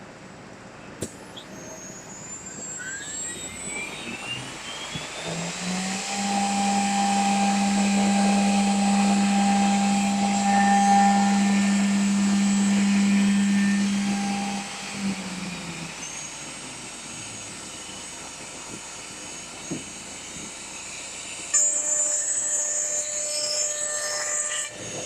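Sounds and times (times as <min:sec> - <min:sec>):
woodworking machine motor whine: 0:00.4 - 0:25.0.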